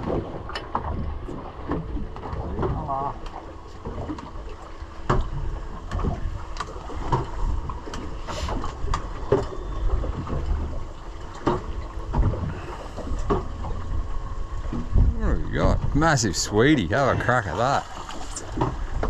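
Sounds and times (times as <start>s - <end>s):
wind rumbling on microphone: 0.0s - 17.0s
waves slapping boat hull: 0.0s - 19.0s.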